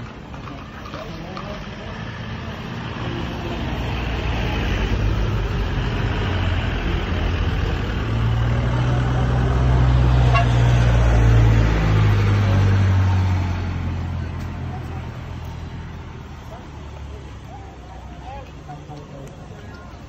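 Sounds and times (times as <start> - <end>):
road noise: 0.0 - 20.0
vehicle engine hum: 0.0 - 20.0.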